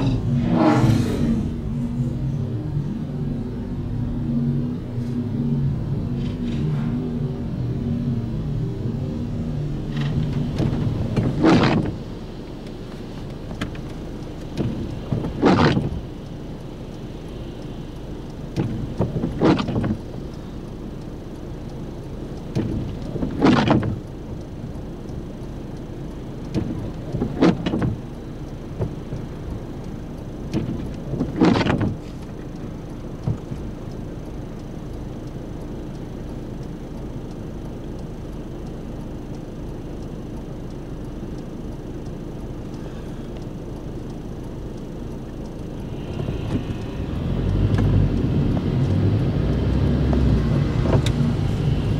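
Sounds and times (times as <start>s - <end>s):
low hum inside car: 0.0s - 51.9s
windscreen wipers sweeping: 0.0s - 51.9s.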